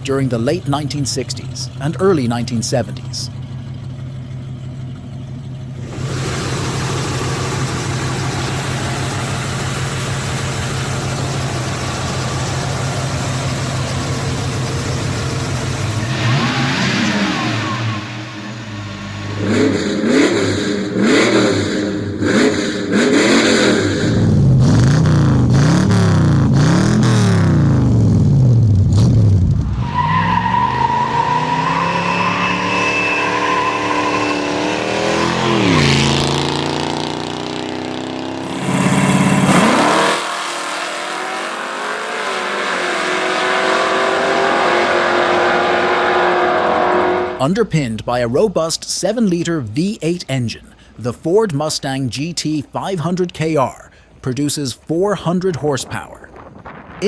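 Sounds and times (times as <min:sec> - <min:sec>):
car engine revving: 0:00.0 - 0:47.7.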